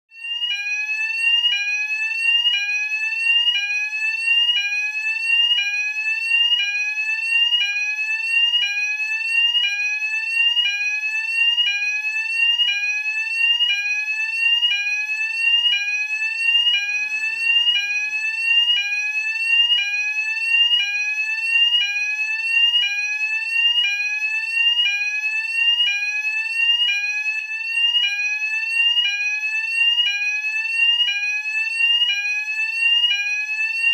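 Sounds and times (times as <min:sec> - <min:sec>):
fire alarm rising sweep tone: 0:00.2 - 0:33.9.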